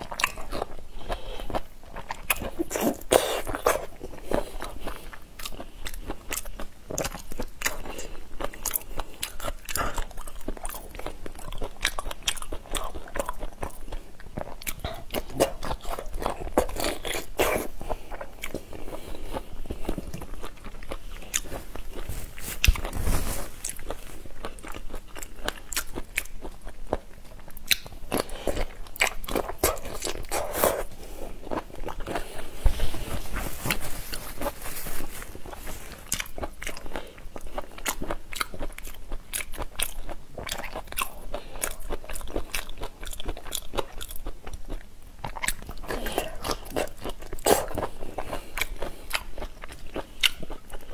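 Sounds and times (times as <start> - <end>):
chewing and crunching shrimp: 0.0 - 50.9.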